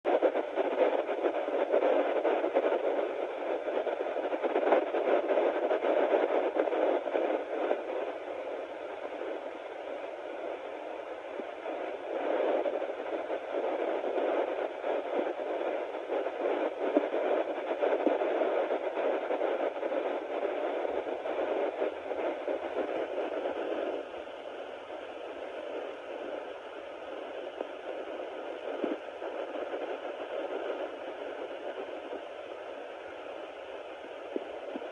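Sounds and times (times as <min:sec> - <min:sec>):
fetal doppler static hiss: 0:00.1 - 0:34.9.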